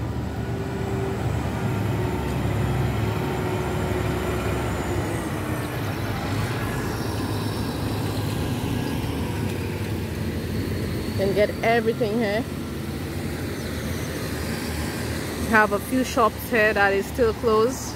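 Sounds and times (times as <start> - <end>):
faint engine tone: 0.0 - 17.9
traffic rumble: 0.0 - 17.9.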